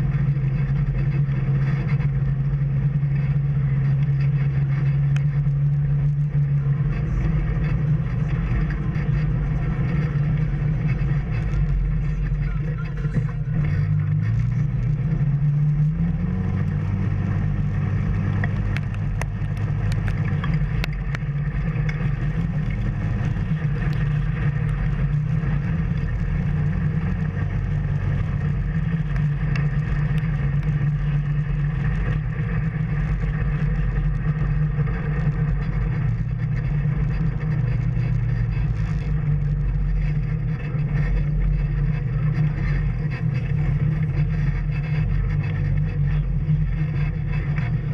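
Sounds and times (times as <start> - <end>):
off-road vehicle engine revving: 0.0 - 47.9.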